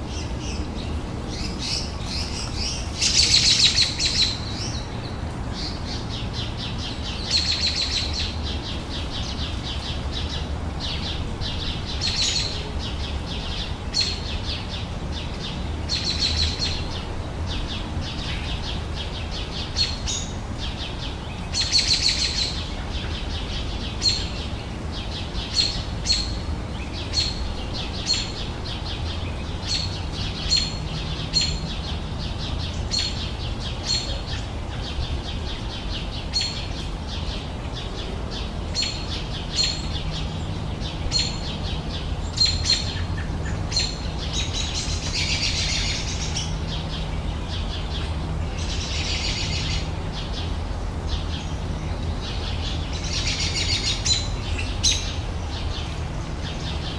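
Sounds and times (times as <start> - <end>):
birds chirping and warbling: 0.0 - 56.9.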